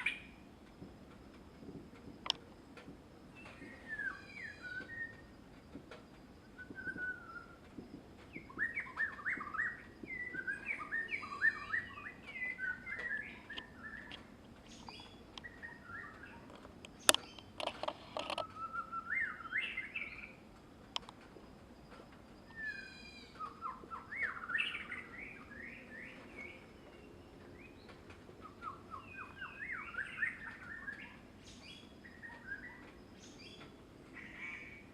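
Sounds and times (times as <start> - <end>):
birdsong chirps and whistles: 0.0 - 0.4, 3.3 - 5.4, 6.4 - 20.4, 21.9 - 34.9.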